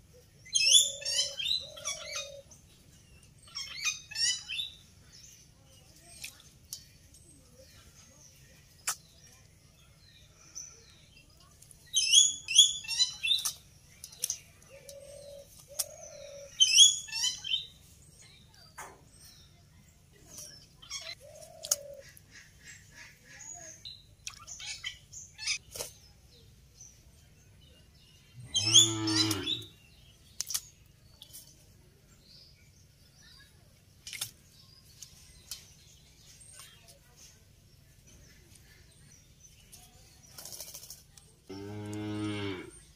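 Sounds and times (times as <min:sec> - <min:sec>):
bird chirping: 0:00.1 - 0:42.9.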